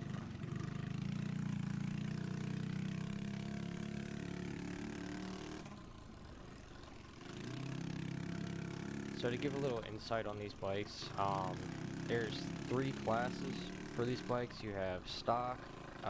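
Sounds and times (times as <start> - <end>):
pit bike engine running: 0.0 - 16.0.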